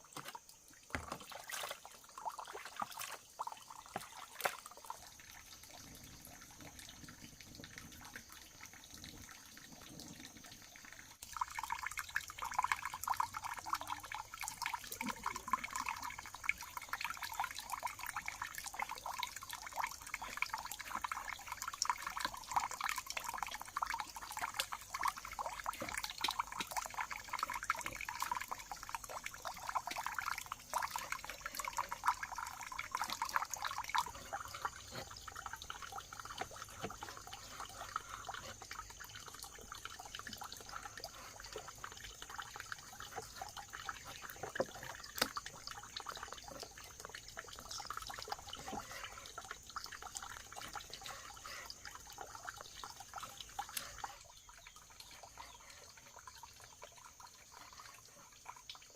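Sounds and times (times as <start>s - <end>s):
water running and splashing: 0.0s - 58.9s.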